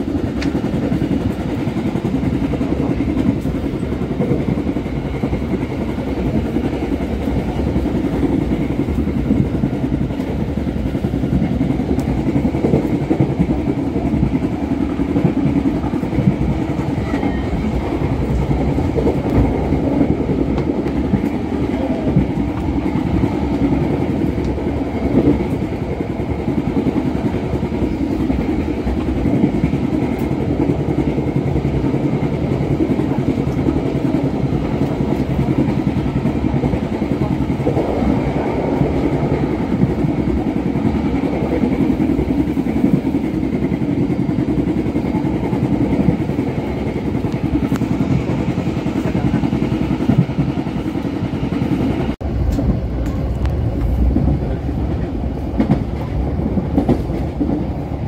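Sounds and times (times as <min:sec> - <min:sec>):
train wheels rumbling and rattling: 0:00.0 - 0:58.0.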